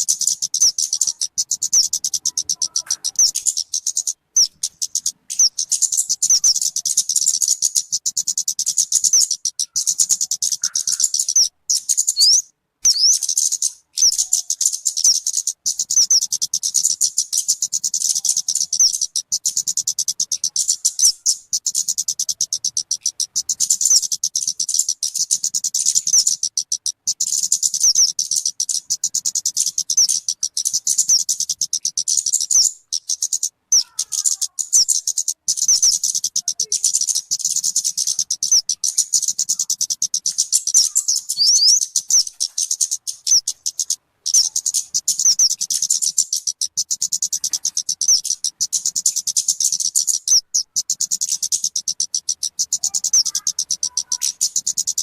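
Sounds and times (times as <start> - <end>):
bird chirping rapidly: 0.0 - 55.0.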